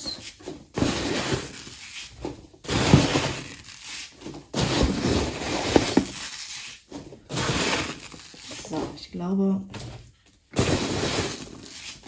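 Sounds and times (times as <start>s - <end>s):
packing peanuts rustling: 0.0s - 9.0s, 10.6s - 12.0s.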